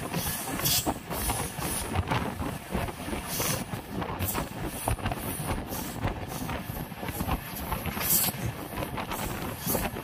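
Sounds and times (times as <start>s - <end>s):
train running: 0.0s - 10.0s
wind buffeting microphone: 0.0s - 10.0s.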